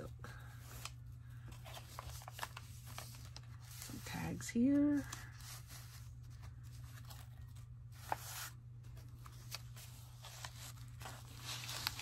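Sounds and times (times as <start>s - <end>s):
paper pages rustling: 0.4s - 12.0s.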